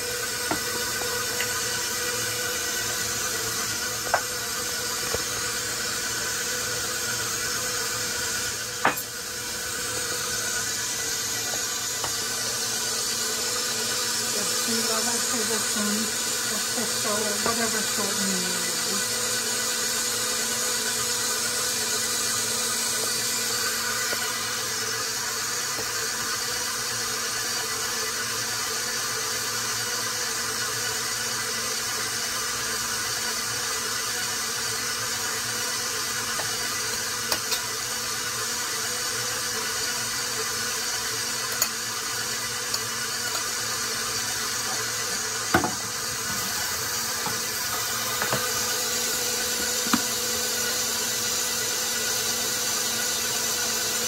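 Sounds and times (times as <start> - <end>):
stand mixer kneading dough: 0.0 - 54.0.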